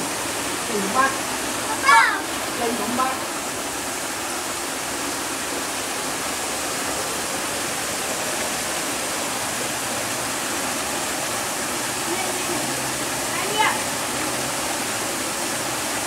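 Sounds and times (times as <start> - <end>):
water rushing through sluice gate: 0.0 - 16.0.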